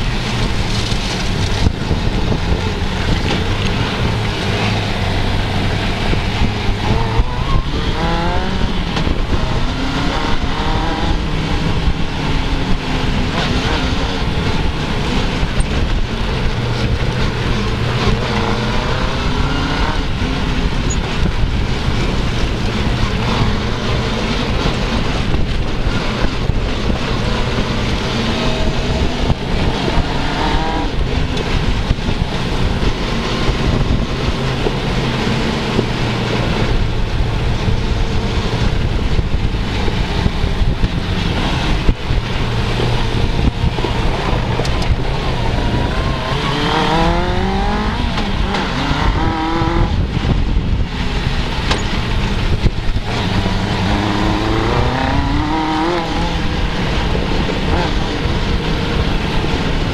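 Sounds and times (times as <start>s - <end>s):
motorcycle engine revving: 0.0s - 59.9s
wind rushing: 0.0s - 59.9s.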